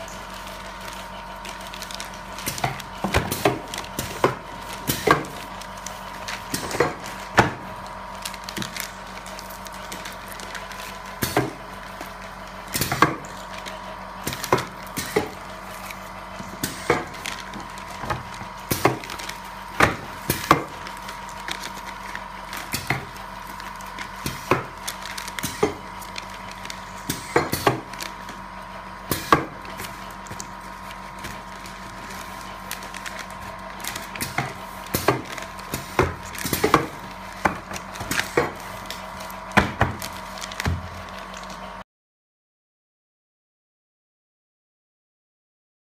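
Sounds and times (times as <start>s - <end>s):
machine humming: 0.0s - 41.8s.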